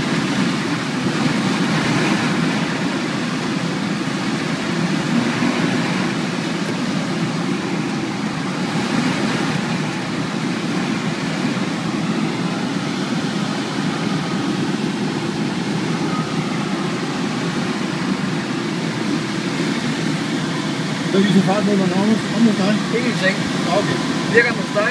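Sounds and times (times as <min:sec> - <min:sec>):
airflow rushing in cockpit: 0:00.0 - 0:24.9
low drone: 0:00.0 - 0:24.9.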